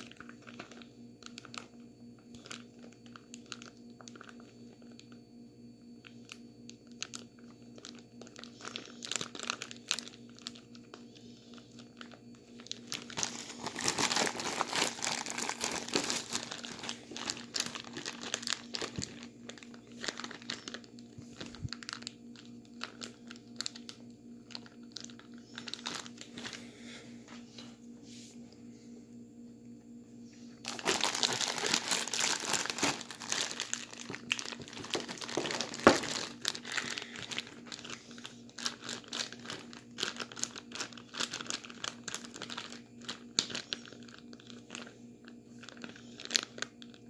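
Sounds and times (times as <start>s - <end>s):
plastic bag crinkling: 0.0s - 5.2s, 6.0s - 26.8s, 30.6s - 47.0s.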